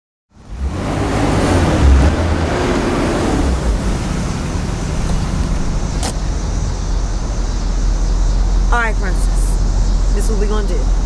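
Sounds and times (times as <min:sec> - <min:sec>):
pitched hum: 0:00.3 - 0:11.0
street traffic rumble: 0:00.3 - 0:11.0.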